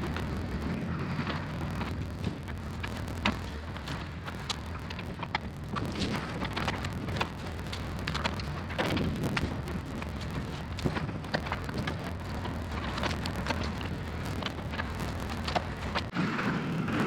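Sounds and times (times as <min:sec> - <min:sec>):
excavator engine running: 0:00.0 - 0:16.2
wood and branches cracking: 0:00.0 - 0:16.2.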